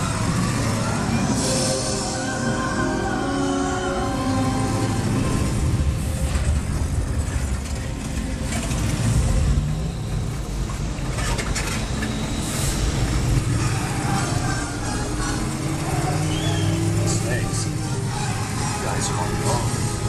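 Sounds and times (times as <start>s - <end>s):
ride vehicle rumbling: 0.0s - 20.0s.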